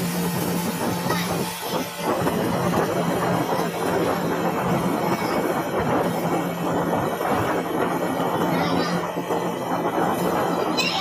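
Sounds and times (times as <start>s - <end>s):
boat motor humming: 0.0s - 11.0s
water rushing past boat: 0.0s - 11.0s.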